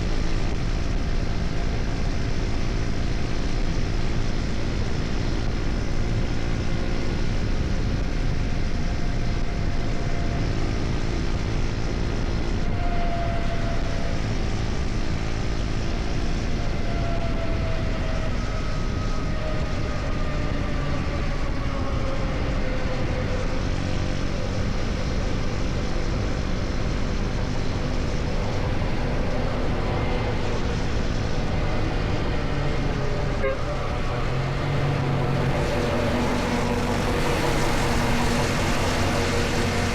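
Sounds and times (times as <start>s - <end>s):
motorcycle engine at speed: 0.0s - 39.9s
wind and road noise: 0.0s - 39.9s.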